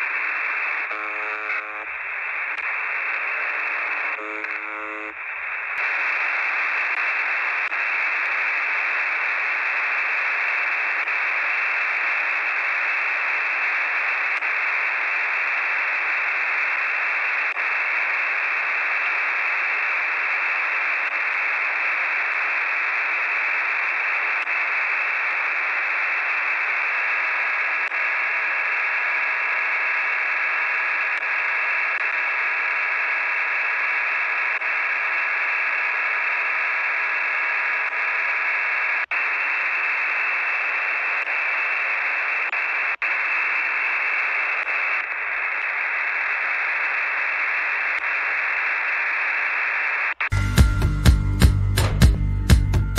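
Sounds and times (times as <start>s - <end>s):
shortwave static hiss: 0.0s - 50.3s.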